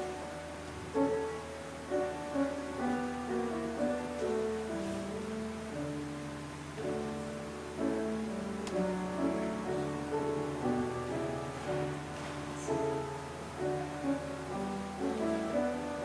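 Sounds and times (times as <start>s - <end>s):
slow keyboard music: 0.0s - 16.0s.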